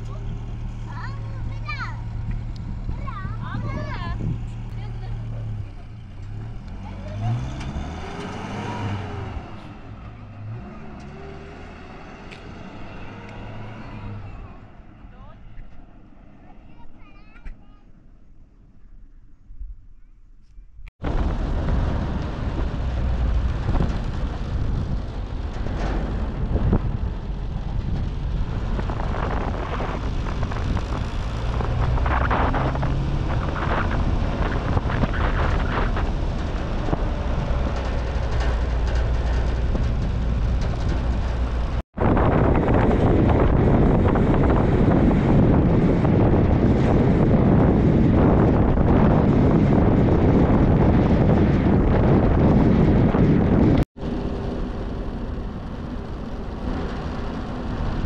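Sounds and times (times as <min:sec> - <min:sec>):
wind buffeting microphone: 0:00.0 - 0:15.0, 0:20.6 - 0:58.0
steady rush of wind: 0:00.0 - 0:19.9, 0:20.6 - 0:58.0.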